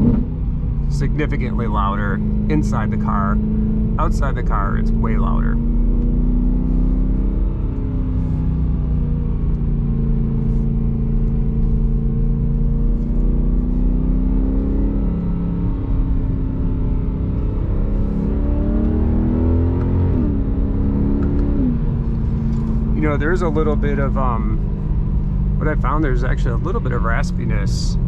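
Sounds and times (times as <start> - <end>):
car engine from inside cabin: 0.0 - 28.0.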